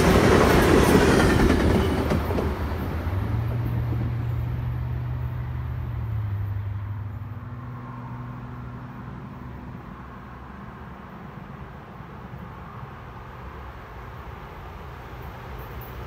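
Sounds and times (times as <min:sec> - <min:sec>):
train rumble: 0:00.0 - 0:07.8, 0:08.8 - 0:16.0.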